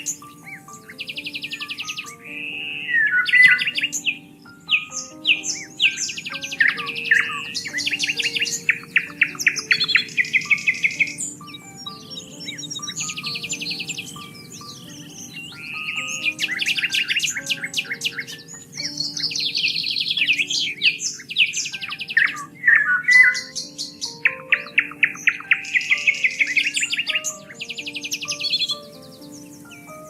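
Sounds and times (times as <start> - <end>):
soft background music: 0.0 - 30.0
songbirds singing: 0.0 - 30.0.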